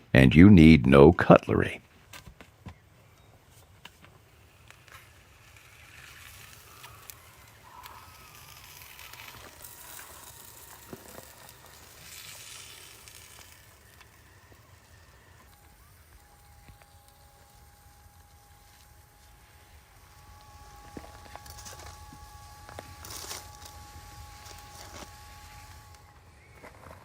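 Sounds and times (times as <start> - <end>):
wood fire crackling: 3.3 - 27.0
small clicks: 3.8 - 27.0.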